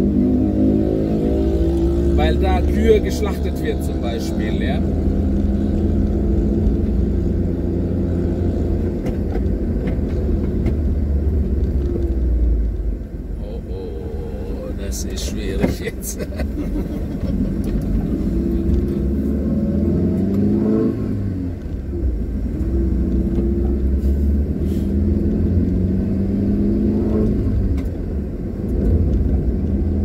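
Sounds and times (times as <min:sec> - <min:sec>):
car engine accelerating: 0:00.0 - 0:30.0
road rumble: 0:00.0 - 0:30.0.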